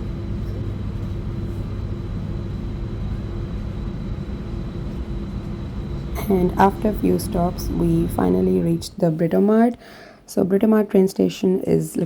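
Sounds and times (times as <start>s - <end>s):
electric train rumbling: 0.0s - 9.6s
constant hum: 0.0s - 12.0s.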